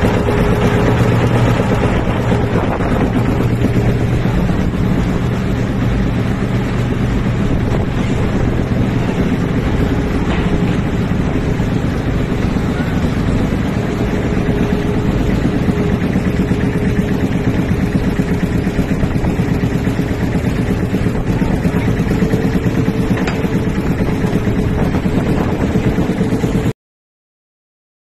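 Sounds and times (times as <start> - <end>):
boat engine rumbling: 0.0 - 26.7.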